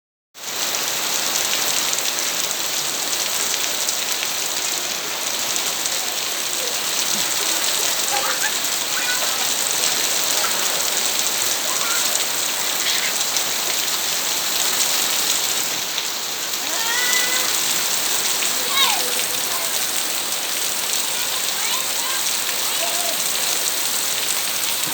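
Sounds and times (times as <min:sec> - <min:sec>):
heavy rain falling: 0:00.4 - 0:24.9.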